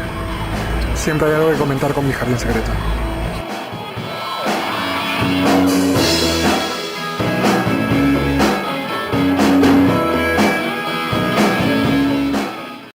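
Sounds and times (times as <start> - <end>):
drum kit beat: 0.0 - 12.9
rock music with electric guitar: 0.0 - 12.9.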